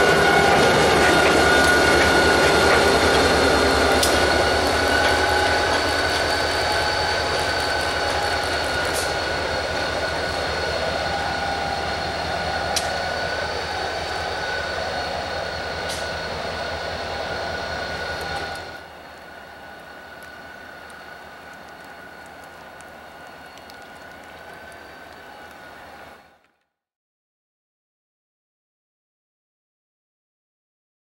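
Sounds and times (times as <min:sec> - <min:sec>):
high-pitched whine: 0:00.0 - 0:26.4
diesel locomotive engine: 0:00.0 - 0:26.6.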